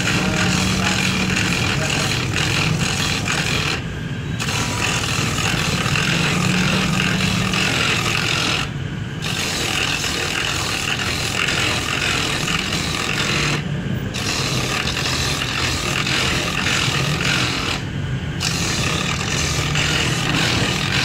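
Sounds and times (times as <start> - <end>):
grater grinding coconut: 0.0 - 13.6, 14.2 - 21.0
electric grater motor hum: 0.0 - 21.0.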